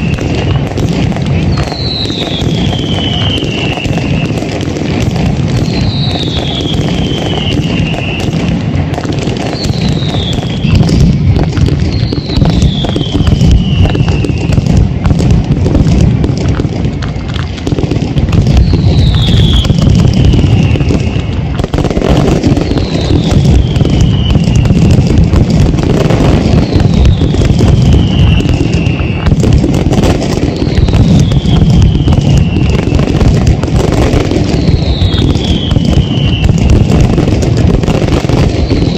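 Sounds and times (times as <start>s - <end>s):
rapid firecracker bangs and crackling: 0.0s - 38.9s.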